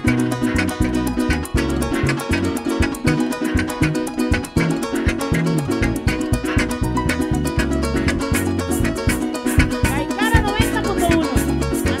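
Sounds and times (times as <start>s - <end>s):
bass line: 0.0s - 12.0s
plucked harp: 0.0s - 12.0s
plucked small guitar: 0.0s - 12.0s
shaker beat: 0.0s - 12.0s.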